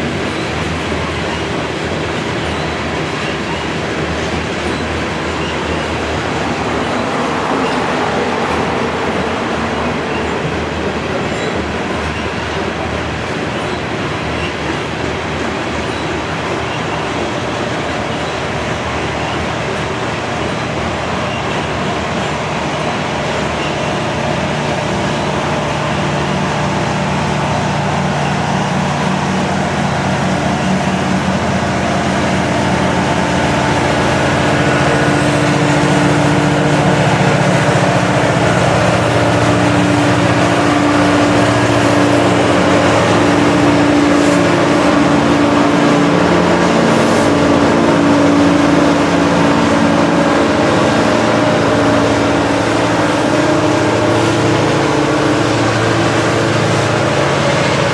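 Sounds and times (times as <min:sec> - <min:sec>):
diesel locomotive engines droning: 0:00.0 - 0:57.9
freight train rolling past: 0:00.0 - 0:57.9.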